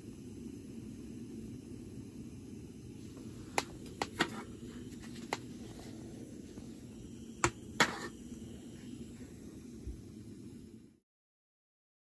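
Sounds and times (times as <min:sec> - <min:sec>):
camping stove burning roar: 0:00.0 - 0:11.0.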